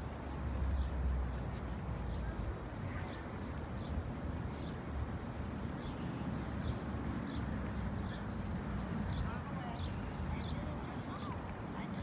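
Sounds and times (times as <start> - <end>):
footsteps on paved path: 0.0 - 12.0
low rumble of wind or traffic: 0.0 - 12.0.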